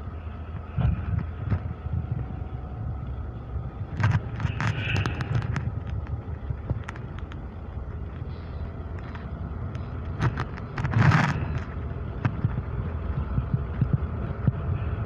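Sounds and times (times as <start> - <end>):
distant traffic: 0.0 - 15.0
wind rumble on microphone: 0.0 - 15.0.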